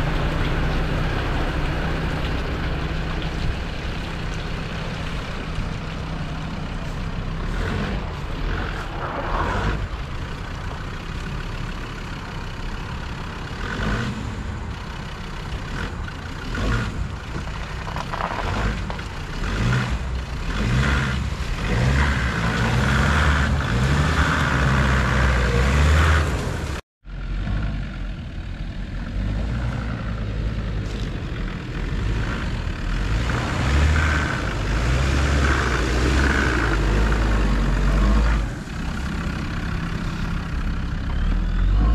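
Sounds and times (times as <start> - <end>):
diesel engine pulling at low speed: 0.0 - 41.9.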